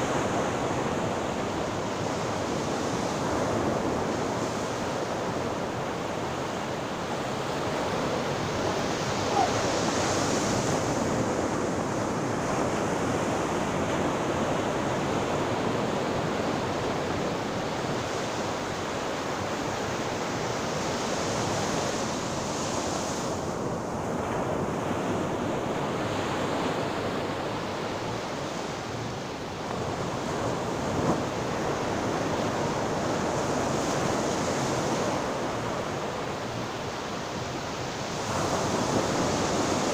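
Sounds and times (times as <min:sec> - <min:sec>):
sea waves breaking on shore: 0:00.0 - 0:39.9
wind: 0:00.0 - 0:39.9.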